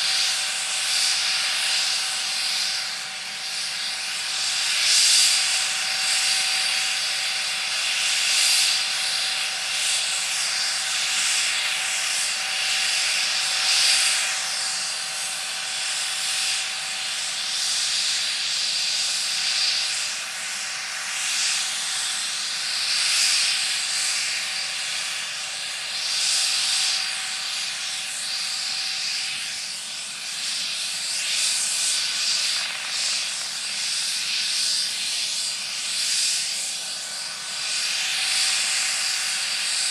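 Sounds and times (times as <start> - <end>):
helicopter turbine whine: 0.0 - 39.9
loud pulsing hiss: 0.0 - 39.9.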